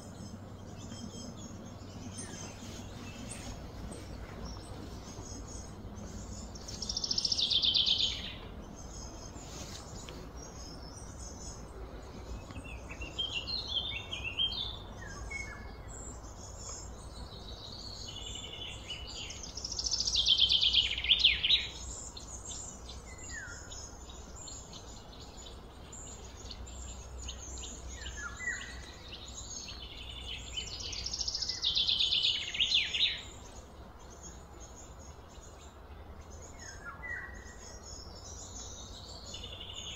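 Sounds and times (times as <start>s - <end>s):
bird song descending: 0.0s - 39.9s
soft bird chirps: 0.0s - 39.9s.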